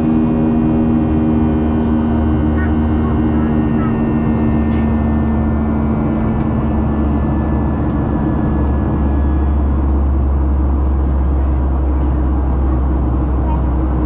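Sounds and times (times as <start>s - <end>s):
jet engines rumbling: 0.0s - 14.0s
cabin hum: 0.3s - 14.0s.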